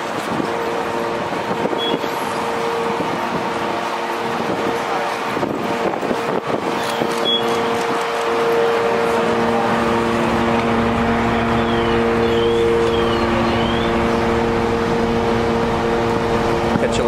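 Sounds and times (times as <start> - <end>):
diesel engine droning hum: 0.0 - 17.0.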